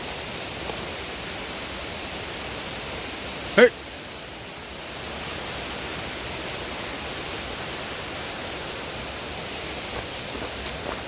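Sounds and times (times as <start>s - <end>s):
fast-flowing creek rushing: 0.0s - 11.0s.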